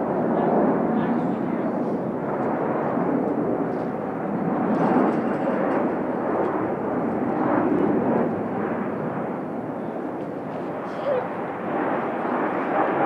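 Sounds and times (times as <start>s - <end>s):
jet engines roaring past: 0.0s - 13.0s.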